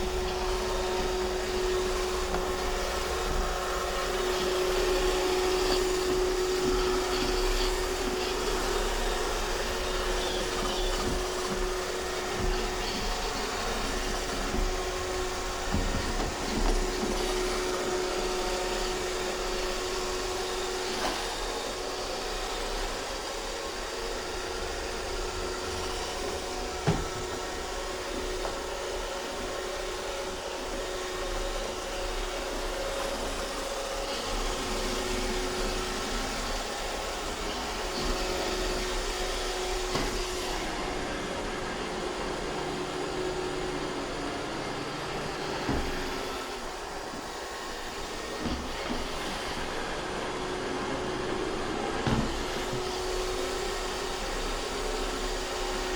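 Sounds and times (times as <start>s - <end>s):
robot vacuum whirring: 0.0s - 55.9s.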